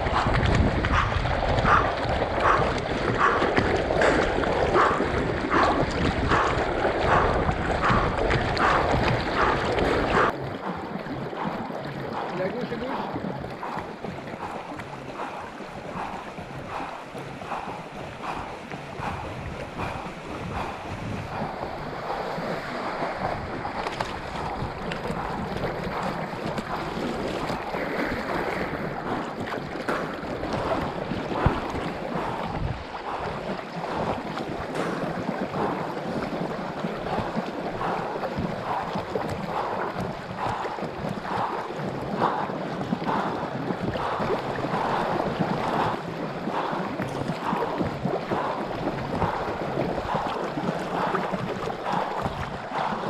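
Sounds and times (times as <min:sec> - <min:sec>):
river water sloshing: 0:00.0 - 0:53.0
swim fins splashing: 0:00.0 - 0:53.0.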